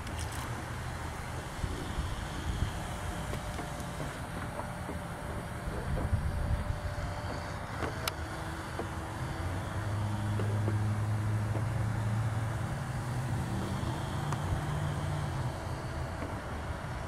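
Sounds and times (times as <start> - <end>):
toy outboard motor humming: 0.0 - 17.0.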